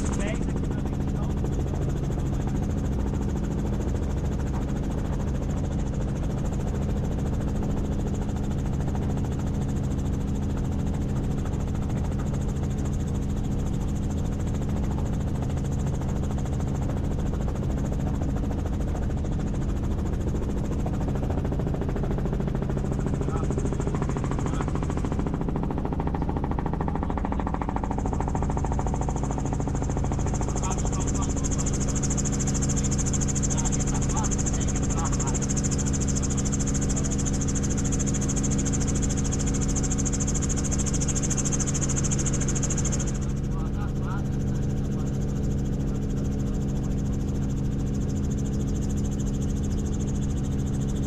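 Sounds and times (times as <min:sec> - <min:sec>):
helicopter rotor chop: 0:00.0 - 0:51.0.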